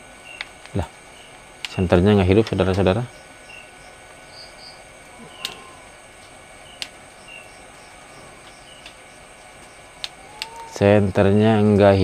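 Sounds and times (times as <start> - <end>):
short insect chirps: 0.0 - 1.8, 3.0 - 11.2
insects trilling: 0.0 - 12.0.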